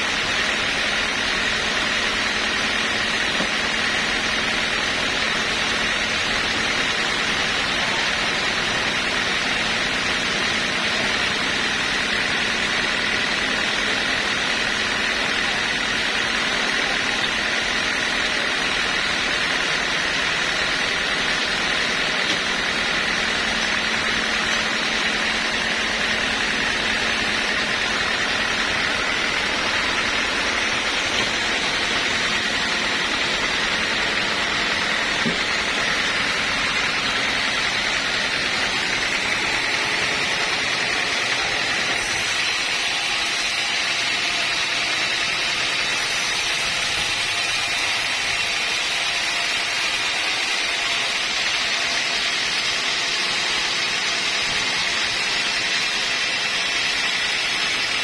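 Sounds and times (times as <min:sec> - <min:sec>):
sawmill machinery hiss and whine: 0:00.0 - 0:58.0.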